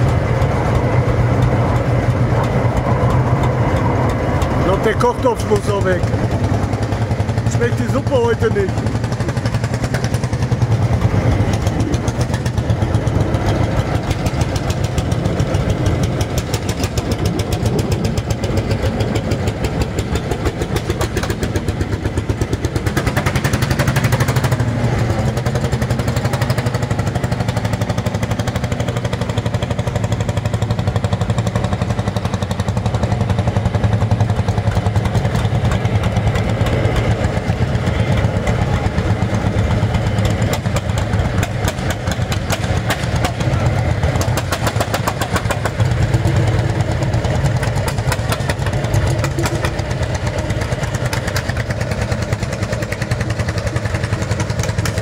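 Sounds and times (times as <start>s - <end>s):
tractor engine thudding: 0.0s - 55.0s.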